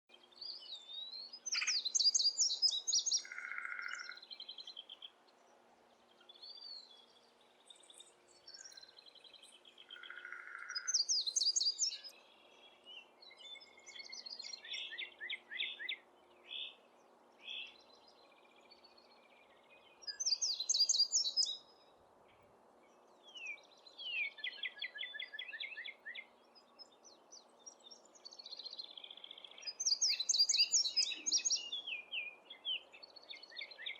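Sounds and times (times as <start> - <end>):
birds chirping: 0.3 - 21.8, 22.9 - 33.9.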